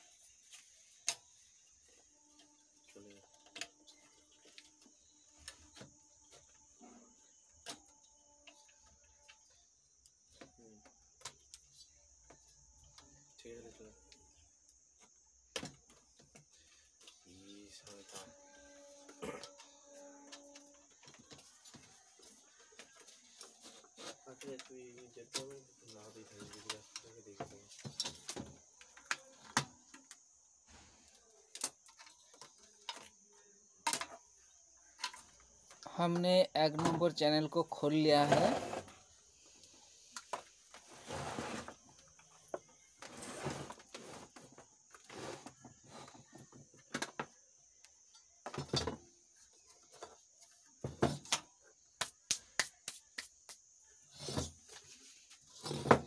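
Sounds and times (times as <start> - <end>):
faint high-pitched hiss: 0.0 - 56.0.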